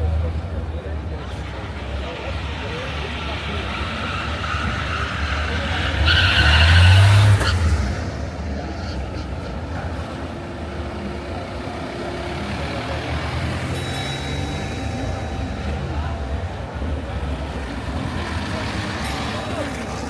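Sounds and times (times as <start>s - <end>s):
motor traffic rumble: 0.0s - 20.0s
people talking: 0.0s - 20.0s.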